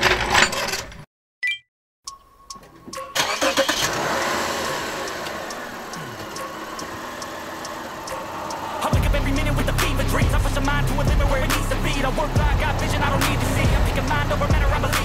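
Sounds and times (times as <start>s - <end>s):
car engine starting and idling: 2.8s - 15.0s.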